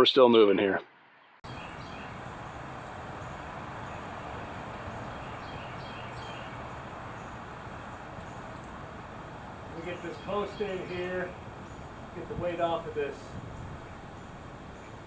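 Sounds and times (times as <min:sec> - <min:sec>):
faint bird chirps: 0:01.2 - 0:15.0
low outdoor rumble: 0:01.4 - 0:15.0.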